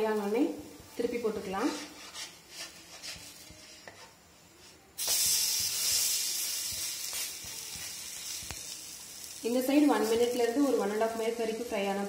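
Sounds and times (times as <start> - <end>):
bread sizzling in a pan: 1.0 - 12.0.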